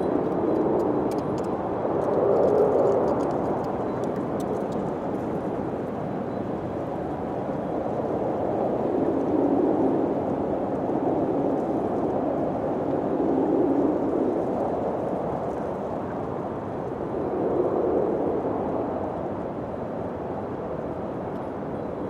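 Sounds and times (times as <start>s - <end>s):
wind gusts: 0.0s - 22.0s.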